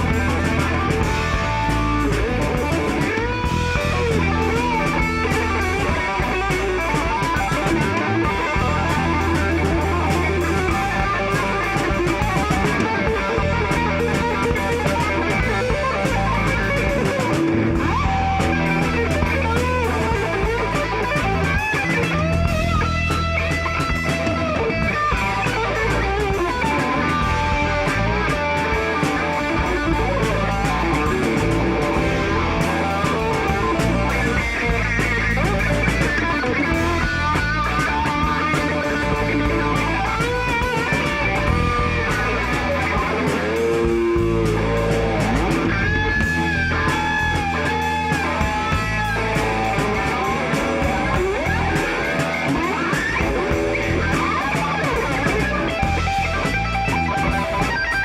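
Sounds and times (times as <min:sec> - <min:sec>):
electric guitar lead: 0:00.0 - 0:58.0
steady drum beat: 0:00.0 - 0:58.0
strummed guitar rhythm: 0:00.0 - 0:58.0.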